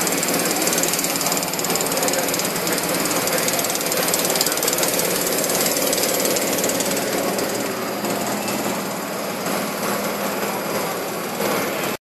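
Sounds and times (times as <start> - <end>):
welding buzzing rattle: 0.0 - 11.9.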